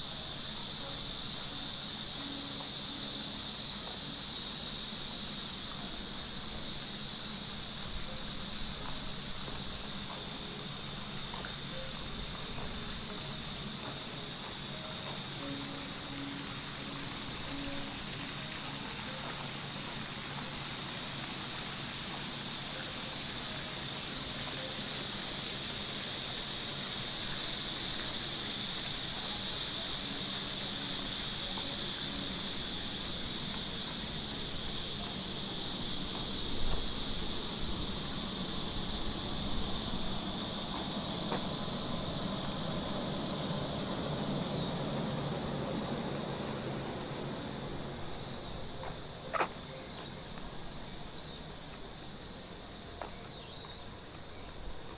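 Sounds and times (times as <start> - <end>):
cicadas chorus: 0.0 - 54.9.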